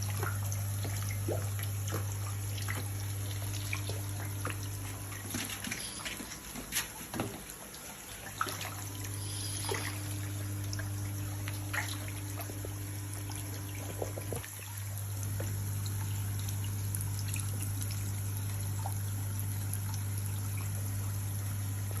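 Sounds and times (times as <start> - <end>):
steady low hum: 0.0 - 22.0
water trickling and splashing: 0.0 - 22.0.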